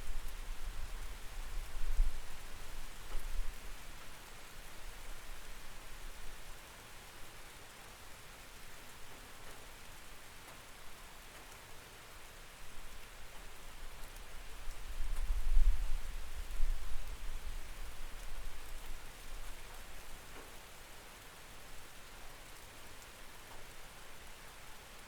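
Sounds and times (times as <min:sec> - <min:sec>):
rain hiss through window: 0:00.0 - 0:25.0.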